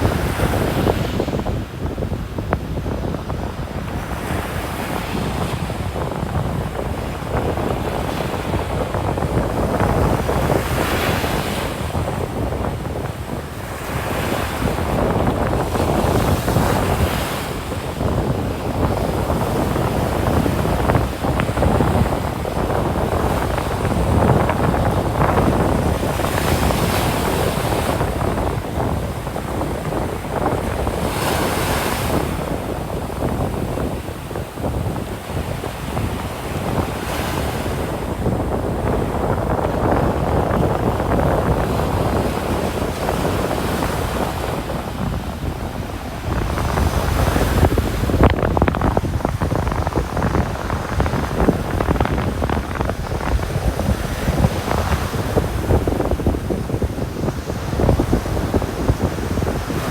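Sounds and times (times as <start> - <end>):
ocean waves breaking on beach: 0.0 - 59.9
wind buffeting microphone: 0.0 - 59.9.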